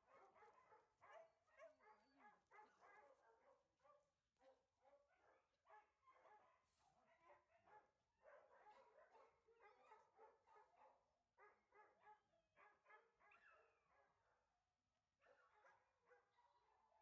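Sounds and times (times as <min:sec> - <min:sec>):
faint dog barking: 0:00.0 - 0:14.6, 0:15.2 - 0:17.0.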